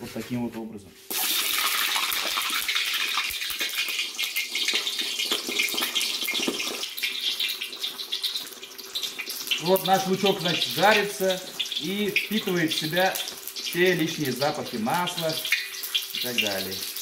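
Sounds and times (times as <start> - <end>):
onion sizzling in hot oil: 1.1 - 17.0.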